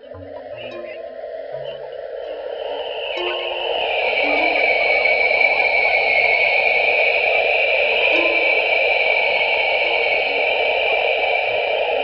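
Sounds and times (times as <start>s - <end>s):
airy wash of noise: 0.0s - 12.0s.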